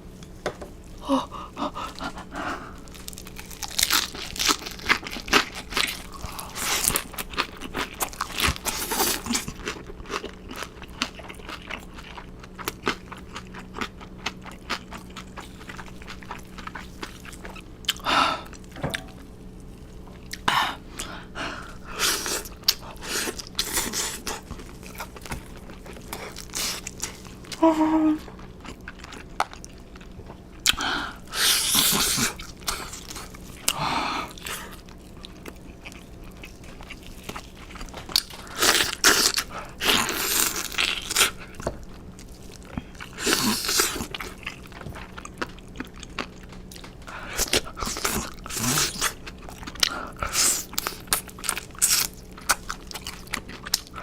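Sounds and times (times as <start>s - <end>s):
faint steady hum: 0.0s - 54.0s
person chewing and crunching: 1.0s - 19.3s, 20.2s - 54.0s.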